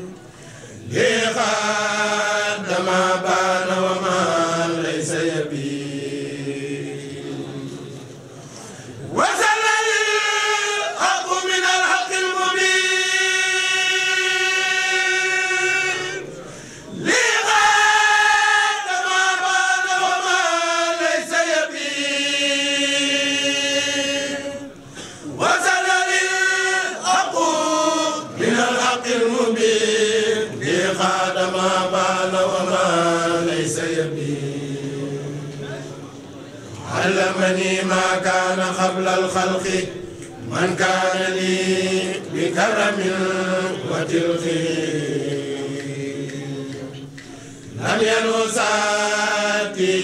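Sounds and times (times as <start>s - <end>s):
voices chanting devotional poem: 0.0s - 50.0s.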